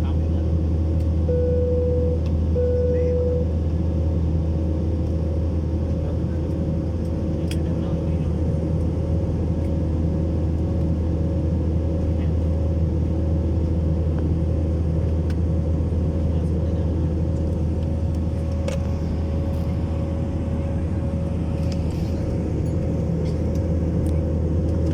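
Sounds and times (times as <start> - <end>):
low mechanical drone: 0.0 - 24.9.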